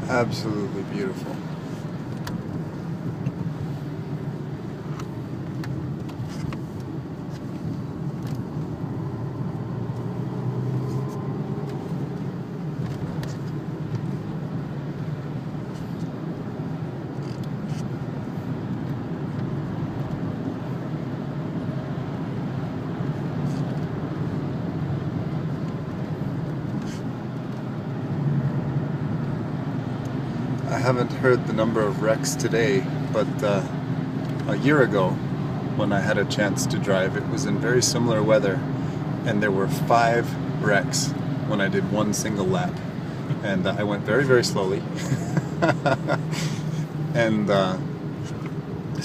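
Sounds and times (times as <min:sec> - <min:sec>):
car cabin engine drone: 0:00.0 - 0:49.0
tyres on wet road: 0:00.0 - 0:49.0.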